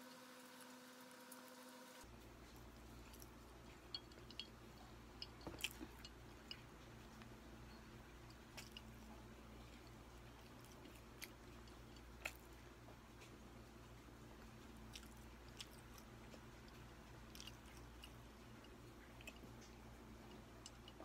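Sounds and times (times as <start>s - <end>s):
low steady hum: 0.0s - 21.0s
faint chewing: 2.1s - 21.0s.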